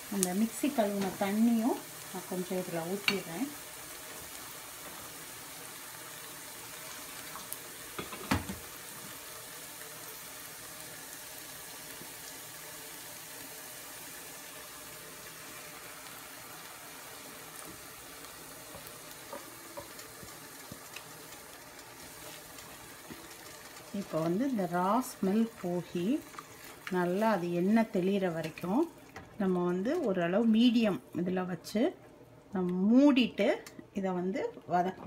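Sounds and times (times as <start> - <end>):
onions sizzling in a pan: 0.0 - 33.5.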